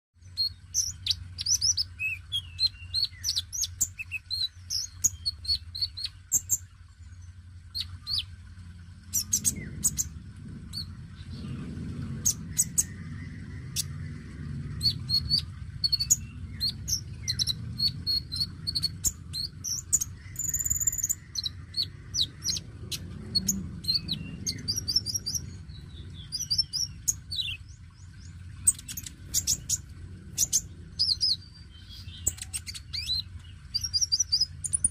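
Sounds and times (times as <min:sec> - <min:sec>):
bird twittering song: 0:00.2 - 0:34.9
steady low hum: 0:00.2 - 0:34.9.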